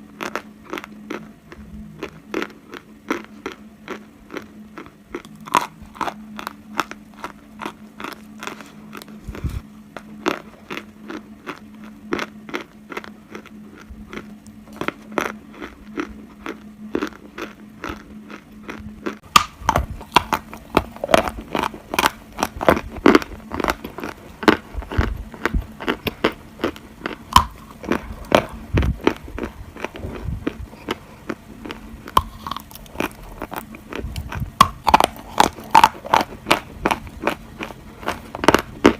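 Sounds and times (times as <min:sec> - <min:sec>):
faint steady hum: 0:00.0 - 0:38.9
person chewing crunchy clay: 0:00.0 - 0:38.9.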